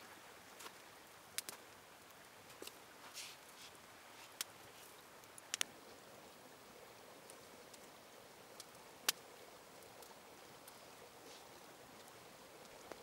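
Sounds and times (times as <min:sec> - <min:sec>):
low steady hiss: 0:00.0 - 0:13.0
campfire crackling and popping: 0:00.5 - 0:13.0.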